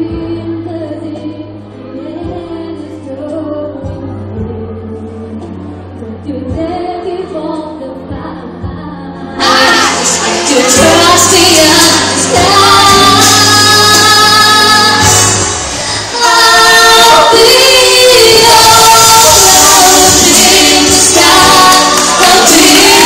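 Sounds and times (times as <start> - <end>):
accompanying music over loudspeakers: 0.0 - 23.0
woman and man singing duet: 0.0 - 23.0.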